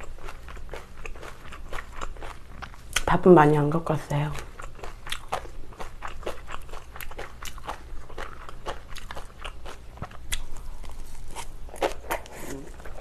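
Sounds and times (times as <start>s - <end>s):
crunchy chewing: 0.0s - 3.1s, 4.3s - 13.0s.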